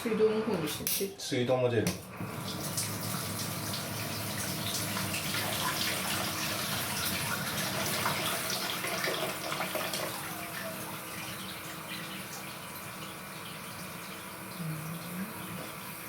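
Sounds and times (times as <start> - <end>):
water running from bath spout: 2.0 - 16.0.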